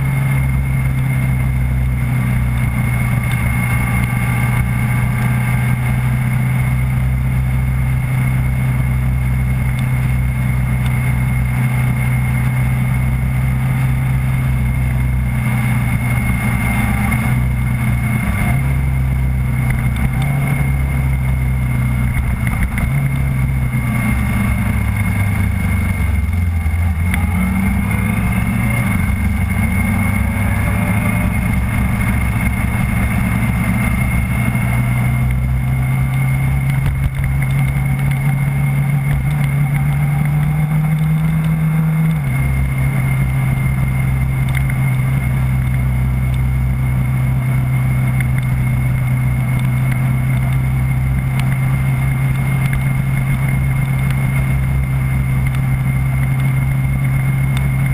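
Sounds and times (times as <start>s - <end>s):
car engine running: 0.0s - 57.9s
high whine: 0.0s - 57.9s
wind and road noise: 0.0s - 57.9s.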